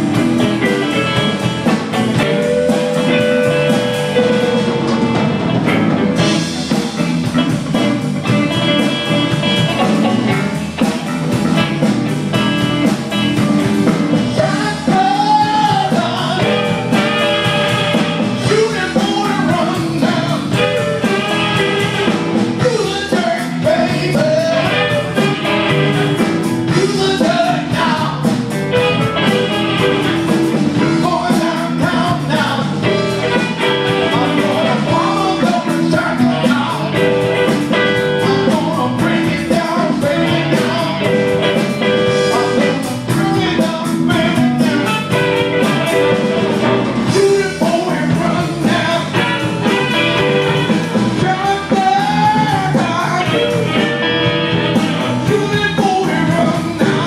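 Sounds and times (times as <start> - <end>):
bending lead guitar melody: 0.0 - 57.0
live blues band playing: 0.0 - 57.0.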